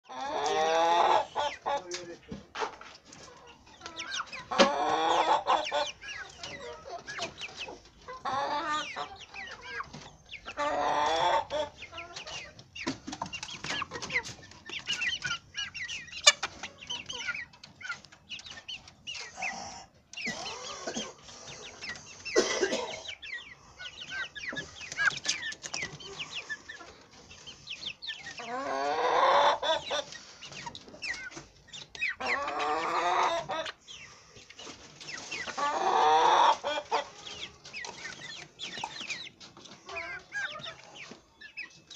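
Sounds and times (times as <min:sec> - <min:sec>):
young chickens clucking: 0:00.0 - 0:41.9.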